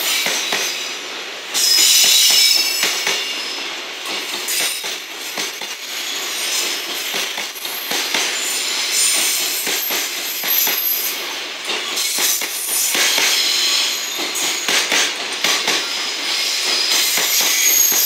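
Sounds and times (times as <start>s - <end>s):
freight wagons rumbling on rails: 0.0s - 18.0s.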